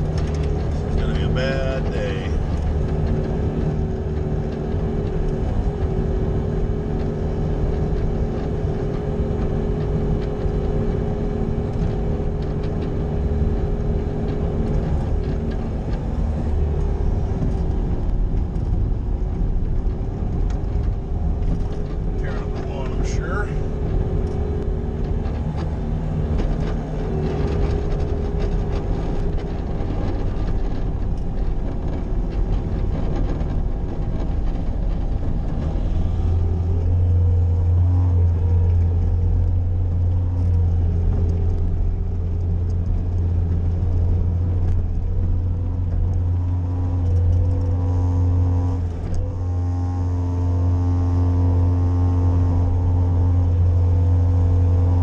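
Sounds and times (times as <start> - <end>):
loader engine droning: 0.0 - 55.0.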